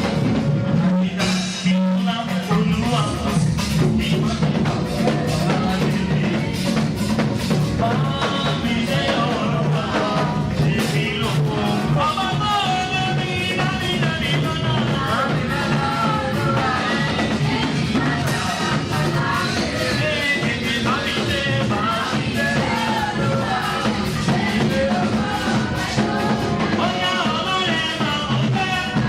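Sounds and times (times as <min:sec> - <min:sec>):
live band with steady beat: 0:00.0 - 0:29.0
voices singing praise song: 0:03.0 - 0:29.0.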